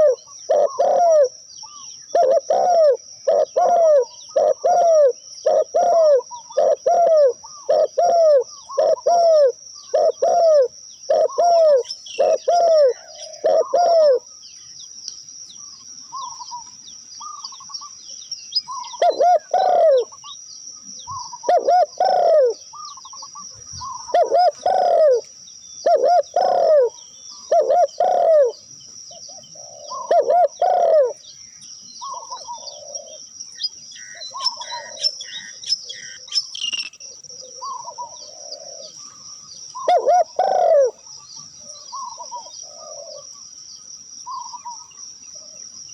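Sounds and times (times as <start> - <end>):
dove cooing: 0.0 - 14.3, 18.7 - 20.4, 21.0 - 31.2, 32.0 - 33.2, 34.0 - 43.3
high-pitched insect whine: 0.0 - 45.9.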